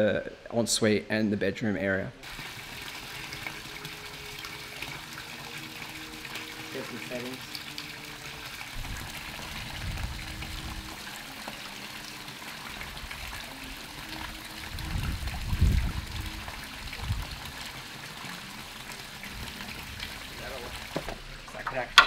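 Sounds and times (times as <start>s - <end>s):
water splashing into pool: 2.2s - 22.0s.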